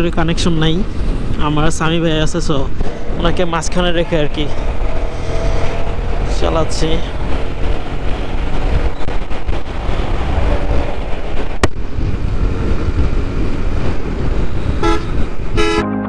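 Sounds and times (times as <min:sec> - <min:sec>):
wind rushing over microphone: 0:00.0 - 0:15.8.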